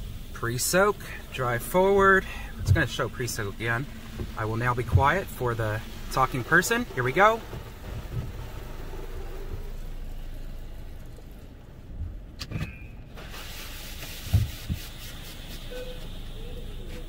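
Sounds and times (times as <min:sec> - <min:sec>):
water spray hitting car: 0:00.0 - 0:11.6, 0:13.1 - 0:17.0
car wash low rumble: 0:00.0 - 0:17.0.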